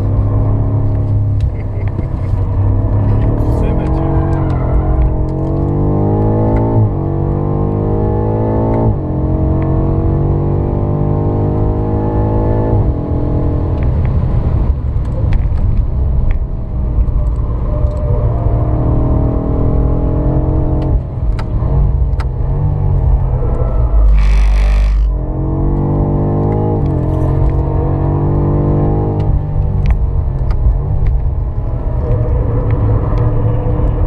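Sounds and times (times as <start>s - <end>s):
car engine accelerating hard: 0.0s - 15.8s, 16.6s - 34.0s.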